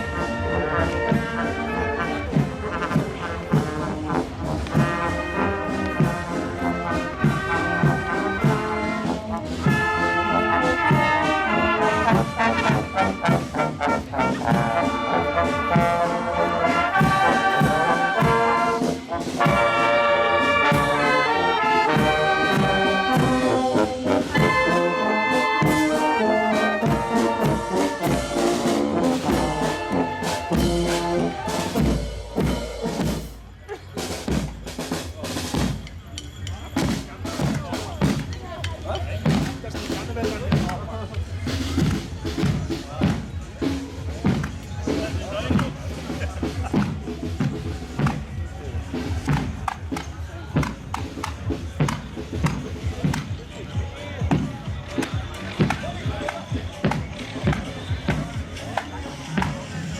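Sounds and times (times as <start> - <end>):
brass band playing: 0.0 - 35.9, 39.2 - 50.0, 50.6 - 59.9.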